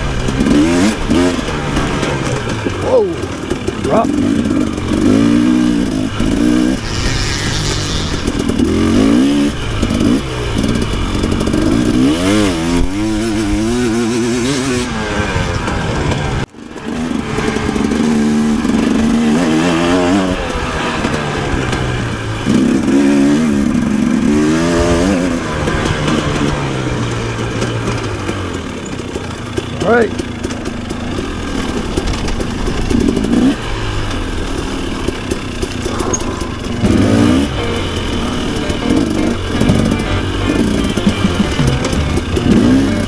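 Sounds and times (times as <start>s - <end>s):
clatter: 0.0s - 43.0s
dirt bike engine revving: 0.0s - 43.0s.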